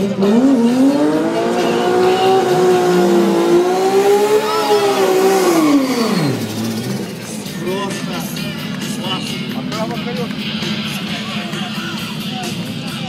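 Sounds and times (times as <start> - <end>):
drag car engine revving: 0.0 - 12.8.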